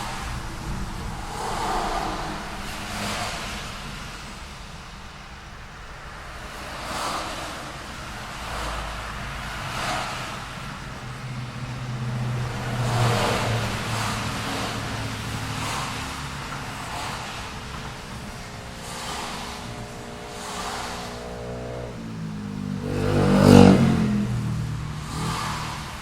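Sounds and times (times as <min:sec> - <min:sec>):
low engine hum: 0:00.0 - 0:06.7, 0:07.8 - 0:26.0
cars passing: 0:00.0 - 0:26.0.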